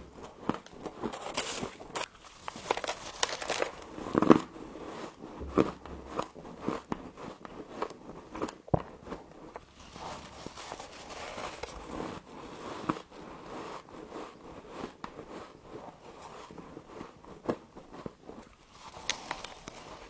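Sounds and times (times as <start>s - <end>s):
frost crunching while chewed: 0.0s - 13.0s, 14.4s - 20.0s.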